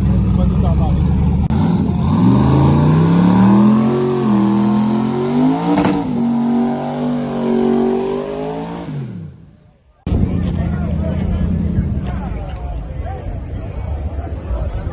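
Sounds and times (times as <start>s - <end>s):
drag car accelerating: 0.0s - 12.7s.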